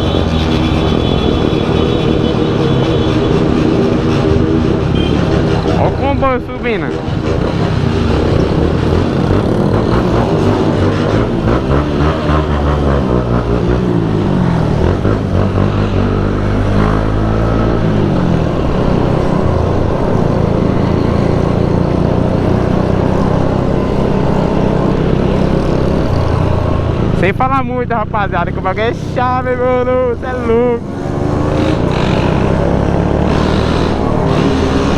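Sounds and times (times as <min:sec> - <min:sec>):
motorcycle engines accelerating: 0:00.0 - 0:34.9.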